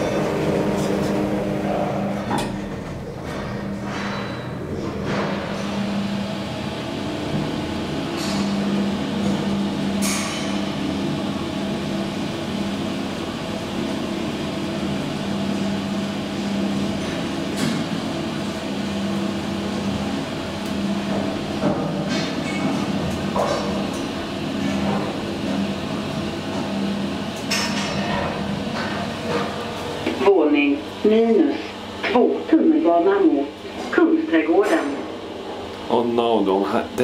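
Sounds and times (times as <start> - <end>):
elevator hum: 0.0 - 37.0.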